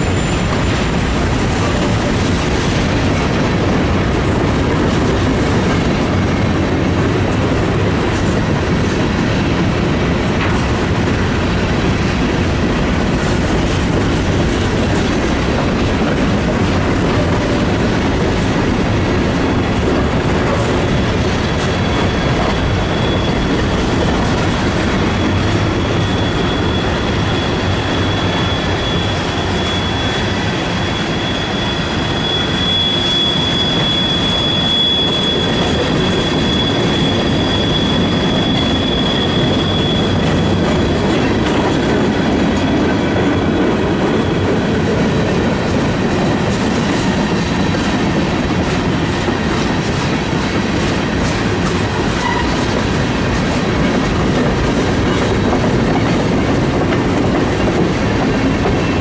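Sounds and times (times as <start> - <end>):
high wheel squeal: 0.0 - 2.3, 9.3 - 57.2
train wheels rumbling on rail: 0.0 - 59.0.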